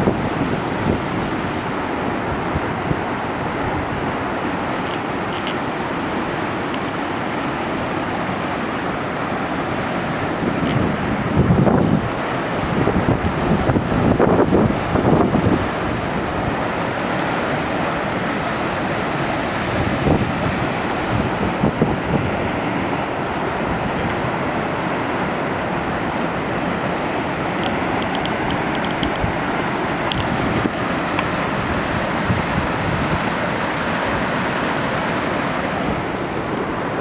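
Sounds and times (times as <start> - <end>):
wind buffeting microphone: 0.0 - 6.9, 9.3 - 37.0
waterfall rushing: 0.0 - 37.0.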